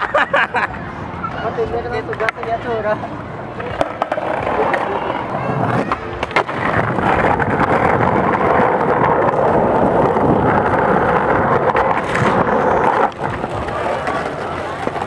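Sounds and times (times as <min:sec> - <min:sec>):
skateboard wheels rolling on asphalt: 0:01.4 - 0:15.0.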